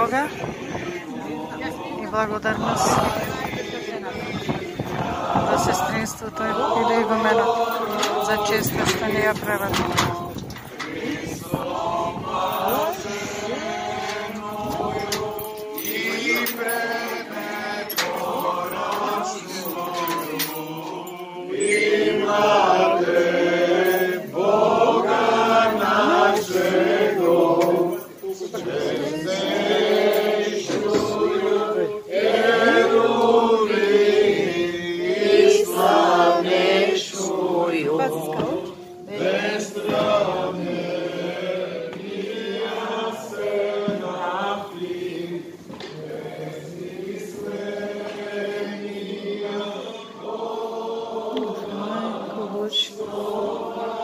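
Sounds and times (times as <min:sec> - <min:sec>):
slow chanting: 0:00.0 - 0:54.0.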